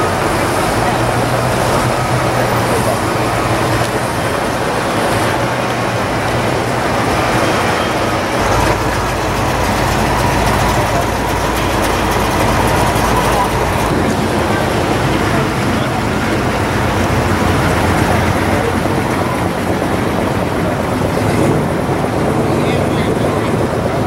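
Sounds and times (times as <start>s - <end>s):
car exhaust rumble: 0.0s - 24.0s
deeper heavier engine rumble: 0.0s - 24.0s.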